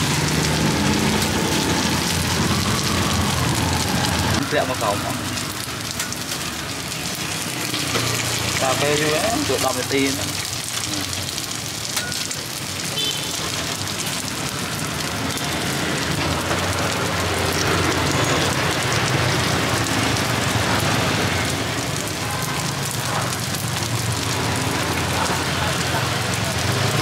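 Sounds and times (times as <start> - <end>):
batter sizzling in a hot pan: 4.5 - 27.0.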